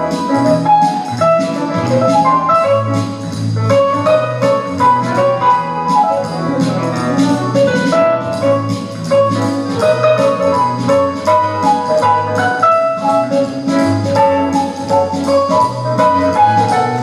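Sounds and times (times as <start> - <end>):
instrumental music with beat: 0.0 - 17.0.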